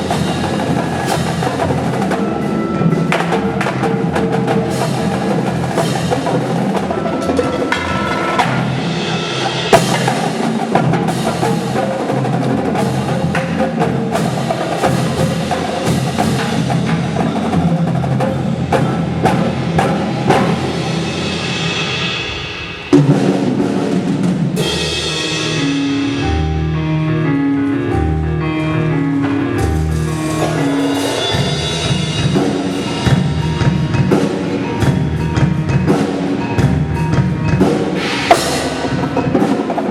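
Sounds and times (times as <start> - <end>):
marimba: 0.0 - 22.0, 24.6 - 39.9
drumline drums: 0.0 - 26.6, 29.3 - 39.9.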